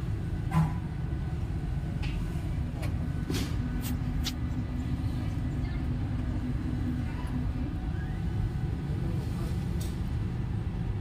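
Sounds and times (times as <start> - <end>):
diesel generator rumbling: 0.0 - 11.0.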